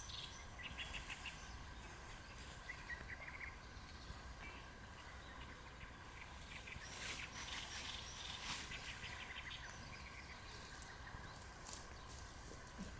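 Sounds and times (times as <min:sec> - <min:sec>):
outdoor background noise: 0:00.0 - 0:12.9.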